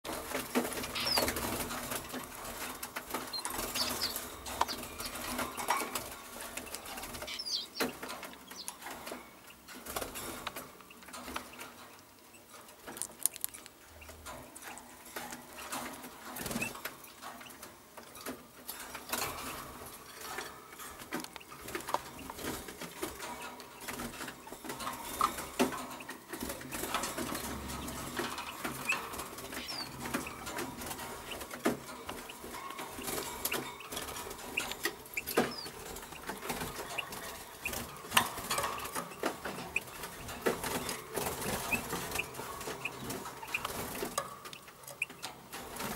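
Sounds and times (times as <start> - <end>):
clicks taps and rustles: 0.1 - 45.9
songbirds chirping: 0.1 - 45.9.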